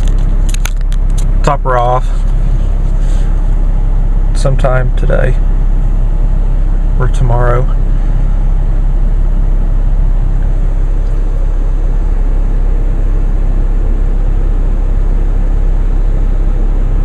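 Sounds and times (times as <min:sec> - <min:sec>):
diesel car idling: 0:00.0 - 0:17.0.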